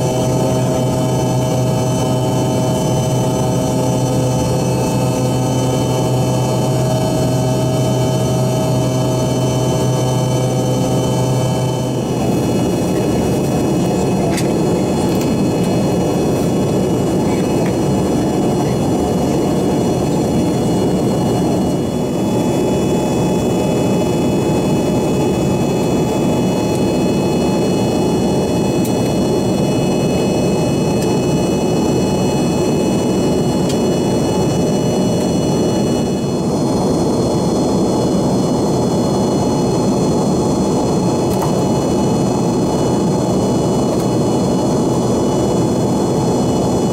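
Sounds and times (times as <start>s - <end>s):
high whining buzz: 0.0s - 46.9s
jet engine cabin roar: 0.0s - 46.9s.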